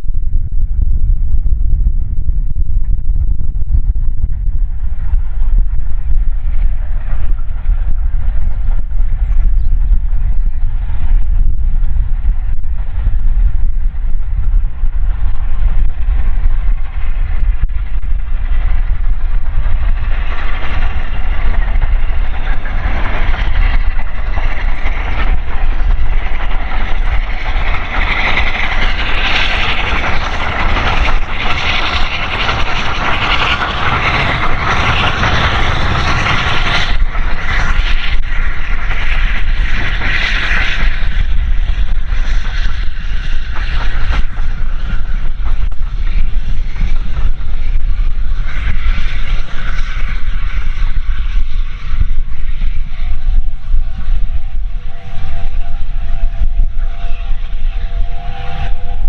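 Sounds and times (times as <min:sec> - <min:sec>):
wind buffeting microphone: 0:00.0 - 0:59.0
steam train passing: 0:04.8 - 0:09.3, 0:10.1 - 0:59.0.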